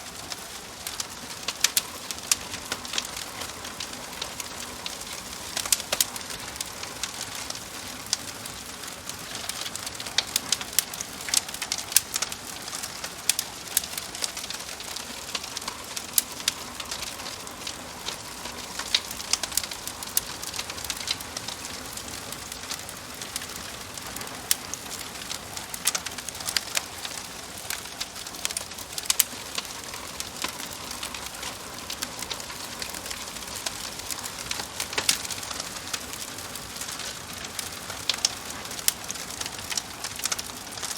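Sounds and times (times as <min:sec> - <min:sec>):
steady hiss: 0:00.0 - 0:40.9
wood fire crackling: 0:00.0 - 0:40.9
sharp fire pops: 0:00.1 - 0:40.9.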